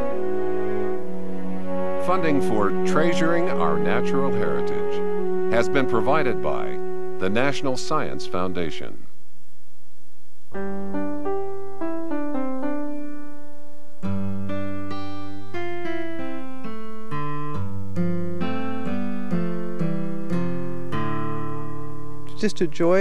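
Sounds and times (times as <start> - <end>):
instrumental background music: 0.0 - 9.0, 10.5 - 23.0.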